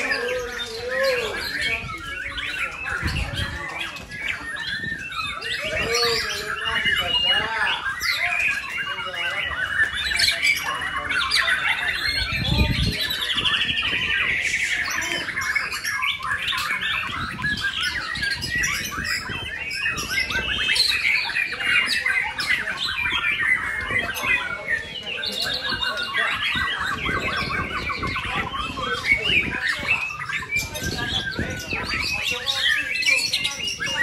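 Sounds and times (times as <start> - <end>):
birds singing chorus: 0.0 - 34.0.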